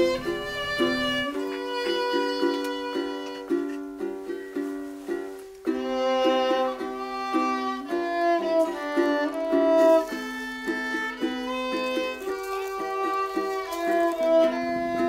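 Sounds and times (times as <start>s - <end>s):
bowed string melody: 0.0s - 15.0s
plucked string notes: 0.0s - 15.0s.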